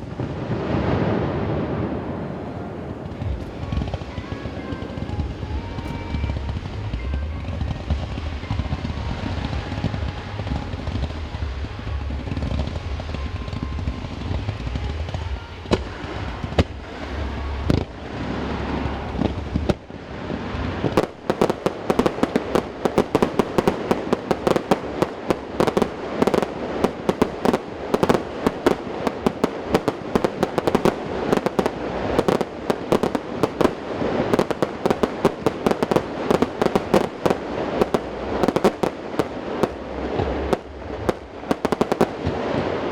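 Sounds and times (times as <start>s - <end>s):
fireworks bangs: 0.0s - 42.9s
fireworks rumble: 0.0s - 42.9s
rapid fireworks crackle: 0.0s - 42.9s.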